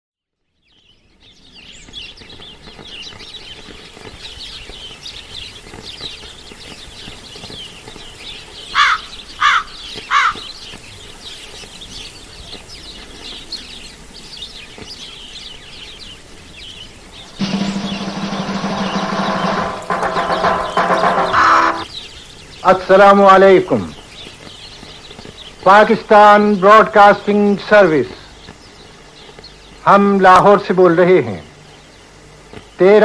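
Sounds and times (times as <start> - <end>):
small birds chirping chorus: 0.3 - 19.6, 20.6 - 33.0.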